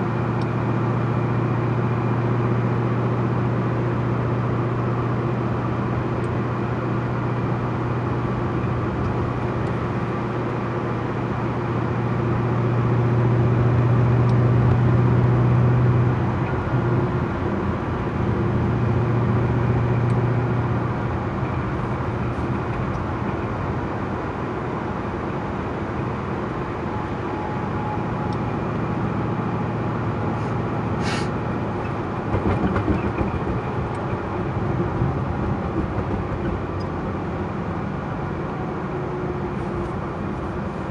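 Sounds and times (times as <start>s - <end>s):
car engine drone: 0.0s - 40.9s
road noise: 0.0s - 40.9s.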